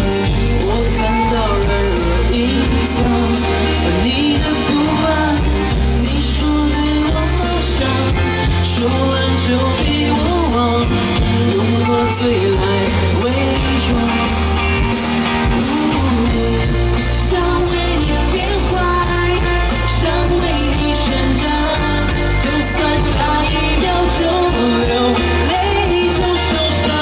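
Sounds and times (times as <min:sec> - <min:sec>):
rock band playing: 0:00.0 - 0:27.0
woman singing into microphone: 0:00.0 - 0:27.0.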